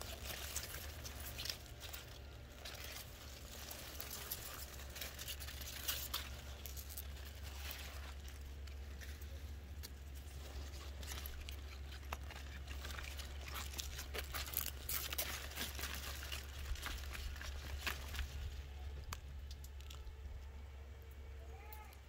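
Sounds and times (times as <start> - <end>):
plants being pulled from soil: 0.0 - 20.8.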